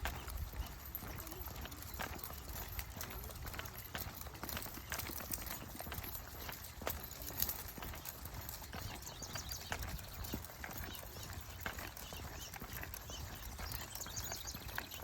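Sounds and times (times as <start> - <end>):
footsteps and paw steps on dirt: 0.0 - 15.0.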